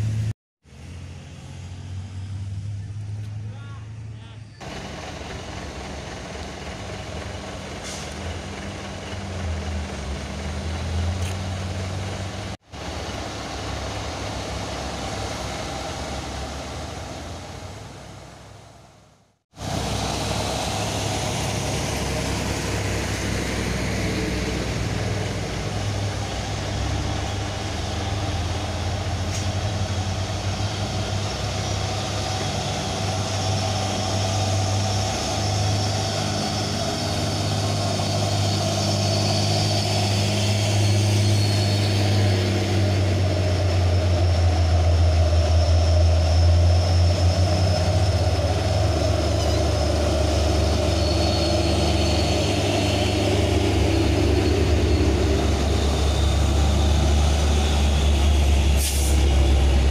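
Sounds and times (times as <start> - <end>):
diesel truck engines droning: 0.0 - 59.9.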